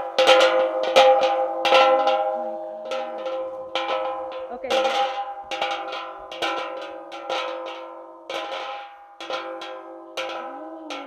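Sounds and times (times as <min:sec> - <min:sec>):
metal wind chime clanging: 0:00.0 - 0:11.0.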